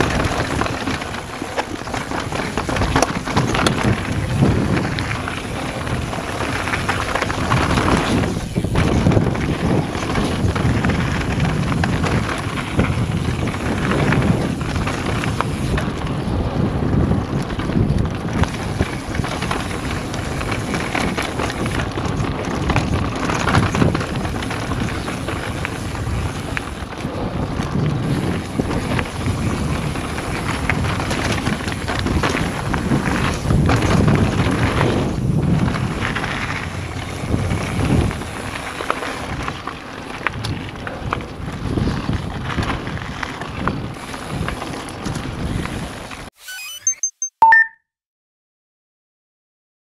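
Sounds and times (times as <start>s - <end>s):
bike rattling over bumps: 0.0s - 46.3s
wind buffeting microphone: 0.0s - 46.3s.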